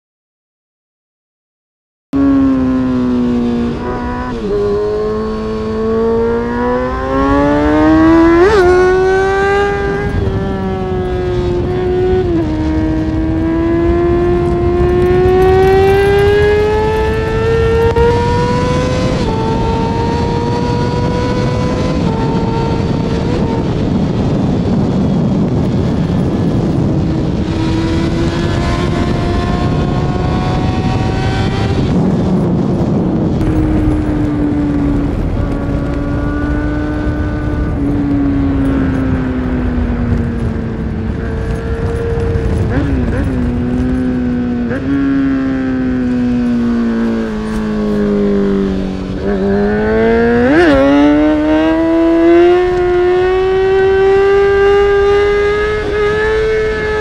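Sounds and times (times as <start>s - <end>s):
motorcycle engine accelerating: 2.2s - 57.0s
wind and road noise: 2.2s - 57.0s.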